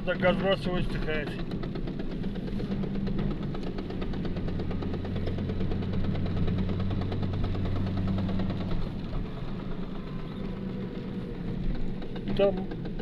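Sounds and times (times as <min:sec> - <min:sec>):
drivetrain knocking: 0:00.0 - 0:13.0.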